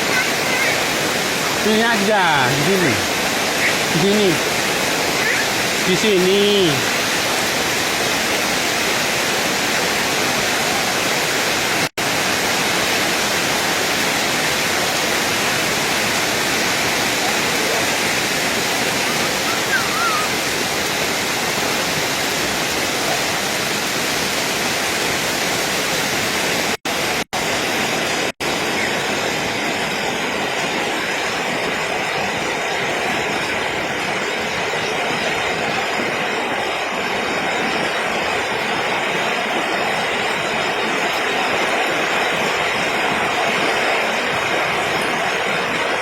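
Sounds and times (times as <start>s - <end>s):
heavy rain: 0.0s - 46.0s.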